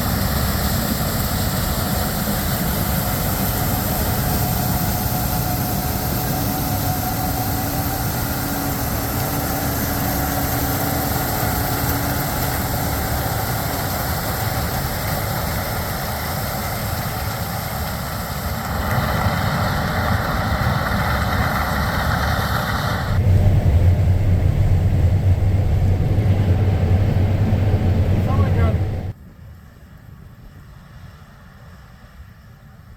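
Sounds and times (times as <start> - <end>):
diesel engines running: 0.0 - 29.1.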